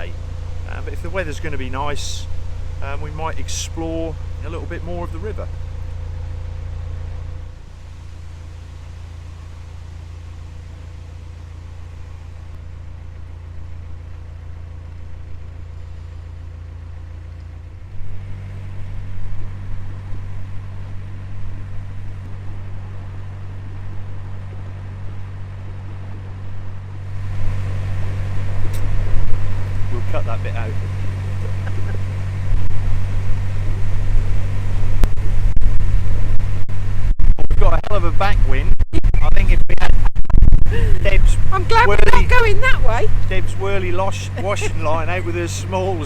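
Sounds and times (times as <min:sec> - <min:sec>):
diesel boat engine running: 0:00.0 - 0:46.0
low rumble of strong wind: 0:00.0 - 0:46.0.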